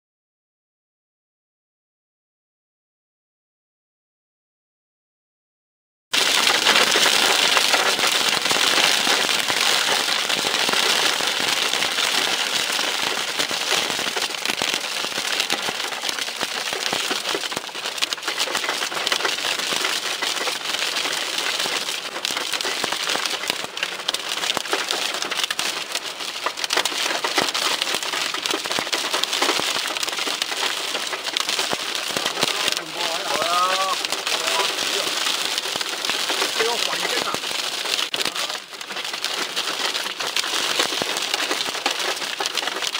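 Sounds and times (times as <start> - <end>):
hail pelting a car: 6.2 - 42.9.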